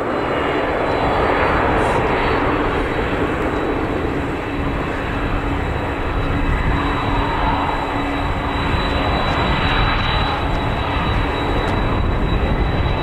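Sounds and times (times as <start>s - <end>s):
jet engines running at low power: 0.0s - 13.0s.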